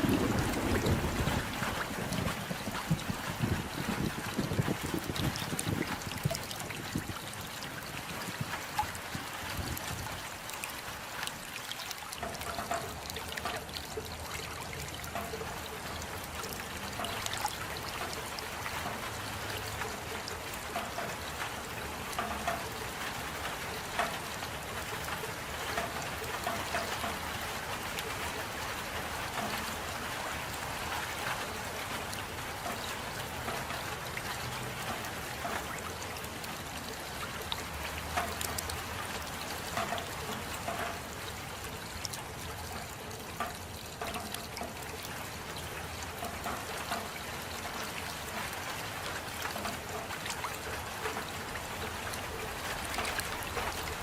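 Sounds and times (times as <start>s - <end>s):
steady rain: 0.0s - 54.0s
water trickling and dripping: 0.0s - 54.0s.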